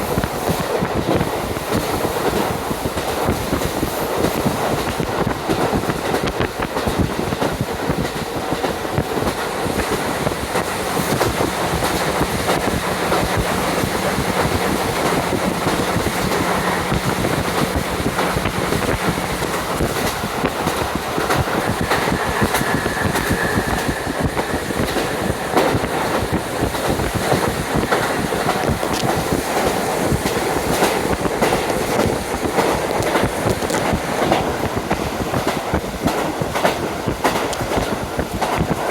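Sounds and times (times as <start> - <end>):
train running noise: 0.0 - 38.9
wind rushing through window: 0.0 - 38.9
wheels clicking over rail joints: 0.2 - 38.9.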